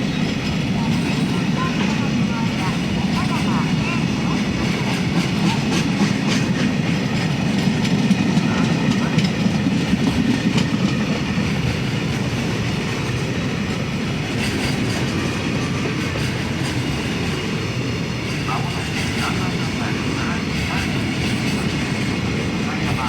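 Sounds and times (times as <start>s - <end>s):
freight train rumbling past: 0.0s - 23.0s
wheels clacking over rail joints: 0.0s - 23.0s.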